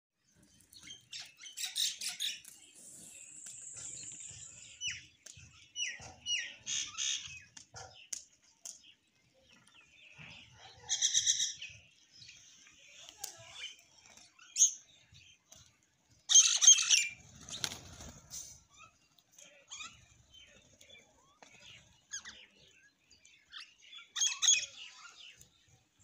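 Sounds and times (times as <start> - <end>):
sparrows chirping: 0.2 - 26.0.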